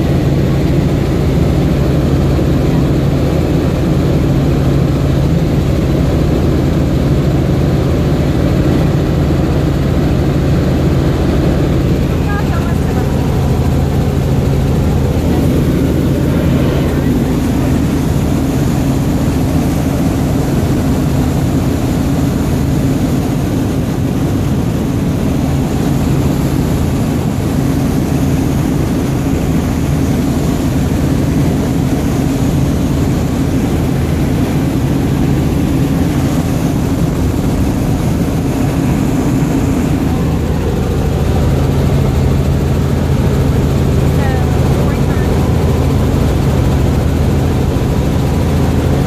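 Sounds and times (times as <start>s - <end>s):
helicopter engine and rotors: 0.0s - 49.0s.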